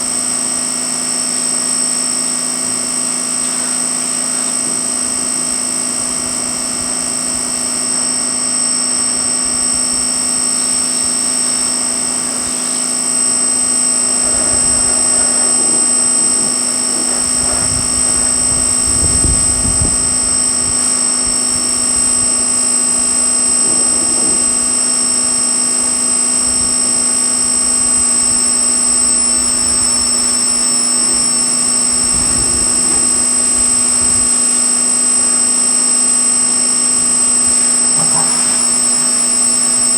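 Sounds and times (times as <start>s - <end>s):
pressure washer whine and hum: 0.0s - 39.9s.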